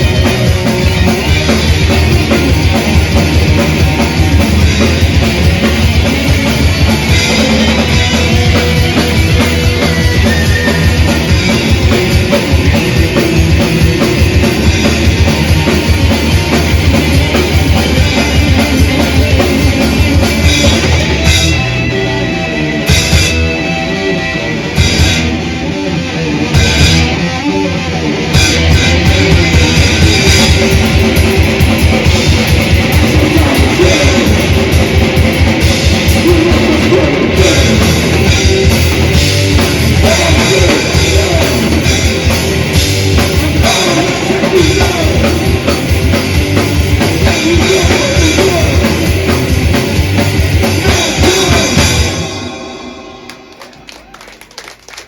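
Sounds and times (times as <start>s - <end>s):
distorted electric guitars: 0.0s - 55.0s.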